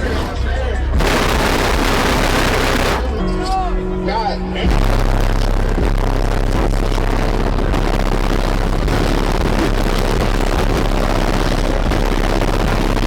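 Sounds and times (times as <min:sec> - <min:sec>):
distorted bass-heavy car audio: 0:00.0 - 0:13.0.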